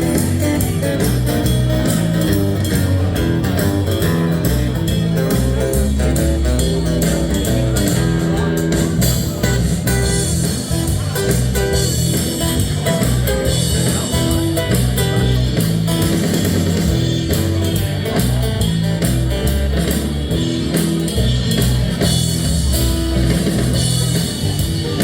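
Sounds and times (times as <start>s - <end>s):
electric guitar: 0.0s - 25.0s
live rock band playing: 0.0s - 25.0s.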